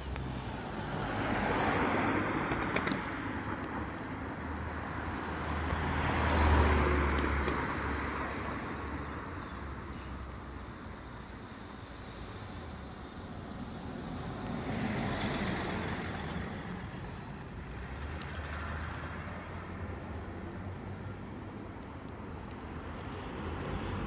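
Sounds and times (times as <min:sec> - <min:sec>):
cars passing on road: 0:00.0 - 0:24.0
distant traffic: 0:00.0 - 0:24.0.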